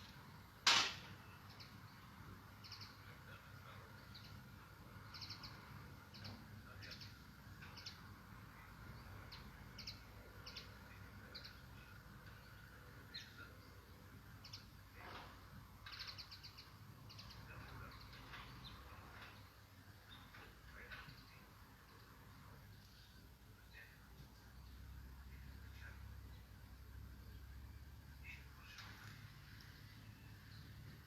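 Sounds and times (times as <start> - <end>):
small birds chirping: 1.1 - 31.0.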